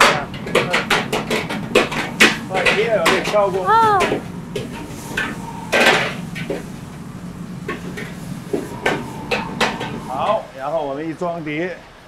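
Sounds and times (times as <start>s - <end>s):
burner humming: 0.0s - 11.6s.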